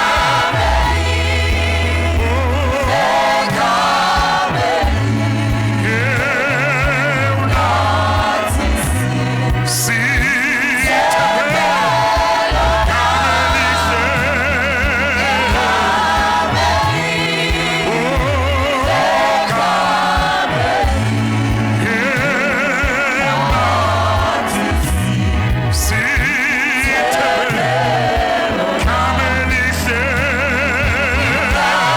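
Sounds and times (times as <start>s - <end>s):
bass line: 0.0s - 31.9s
gospel choir singing: 0.0s - 31.9s
instrumental backing: 0.0s - 31.9s.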